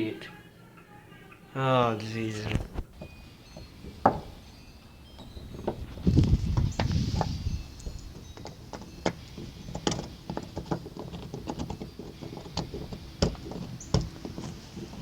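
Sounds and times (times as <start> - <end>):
things rattling in wind: 2.4 - 15.0
wind buffeting microphone: 2.6 - 15.0.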